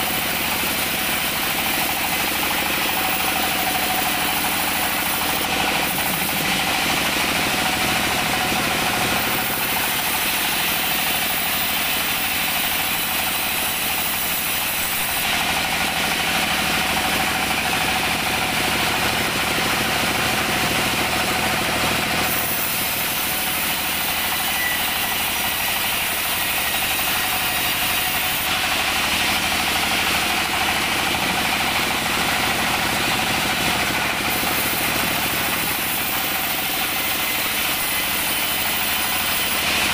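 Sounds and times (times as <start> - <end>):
band saw hum: 0.0 - 39.9
saw blade cutting wood: 0.0 - 39.9.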